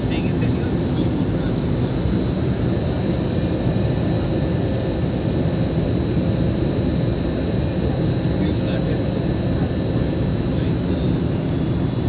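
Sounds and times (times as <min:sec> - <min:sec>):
jet airliner low rumble: 0:00.0 - 0:12.0.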